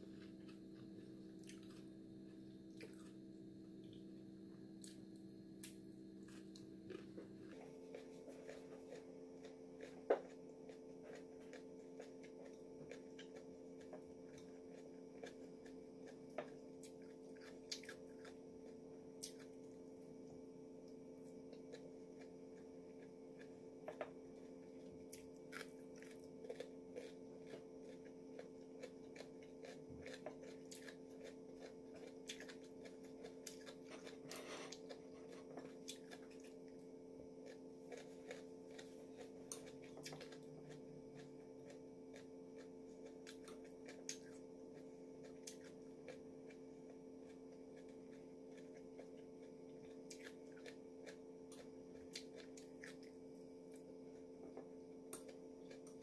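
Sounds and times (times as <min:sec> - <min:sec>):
person chewing: 0:00.0 - 0:04.0, 0:04.8 - 0:20.3, 0:20.9 - 0:56.0
steady hum: 0:00.0 - 0:56.0.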